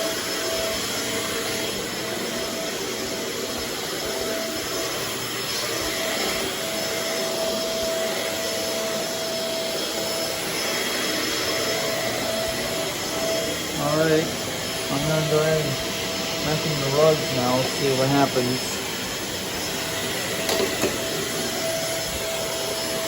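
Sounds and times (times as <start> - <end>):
upright vacuum cleaner running: 0.0 - 23.0.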